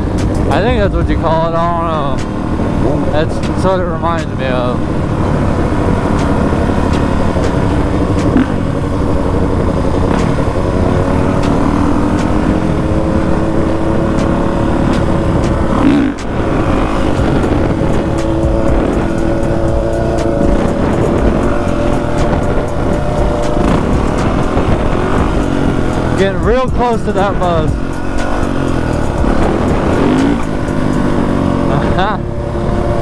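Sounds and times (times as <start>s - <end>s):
dirt bike engine running: 0.0s - 33.0s
low rushing riding noise: 0.0s - 33.0s.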